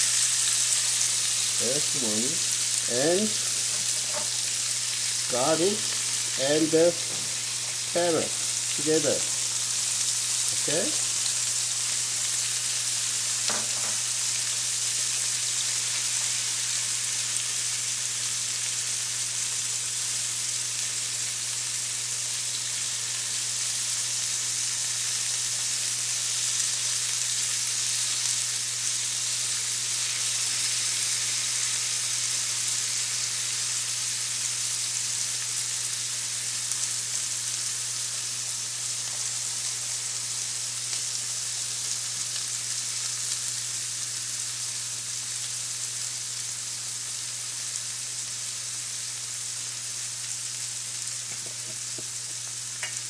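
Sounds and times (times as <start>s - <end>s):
meat sizzling in a frying pan: 0.0s - 53.0s.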